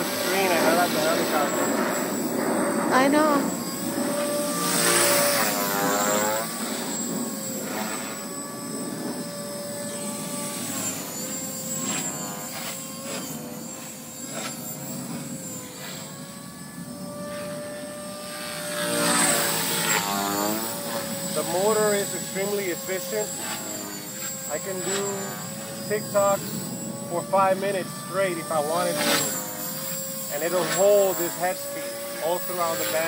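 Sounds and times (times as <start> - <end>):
rc helicopter motor whine: 0.0 - 33.0
rotor blades swooshing: 0.0 - 33.0.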